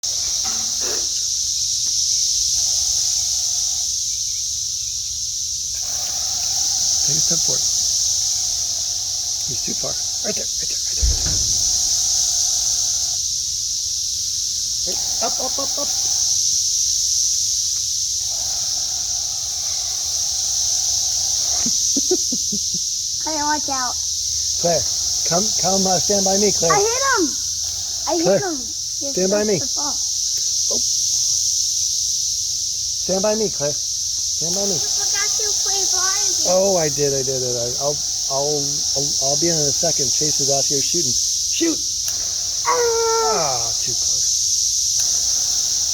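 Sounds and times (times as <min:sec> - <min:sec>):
cicadas buzzing: 0:00.0 - 0:45.9.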